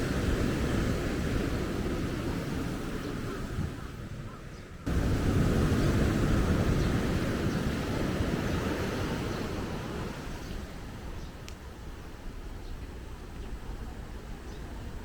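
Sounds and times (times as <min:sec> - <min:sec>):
heavy surf: 0:00.0 - 0:15.0
wind noise: 0:00.0 - 0:15.0.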